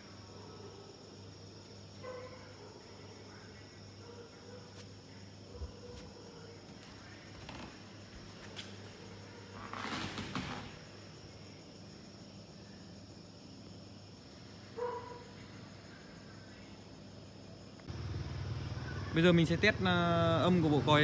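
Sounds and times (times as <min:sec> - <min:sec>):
faint insect trill: 0:00.0 - 0:21.0.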